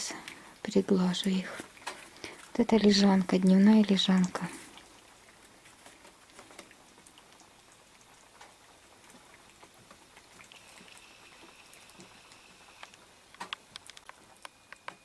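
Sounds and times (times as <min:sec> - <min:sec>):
cats chewing and lapping: 0:00.0 - 0:15.0.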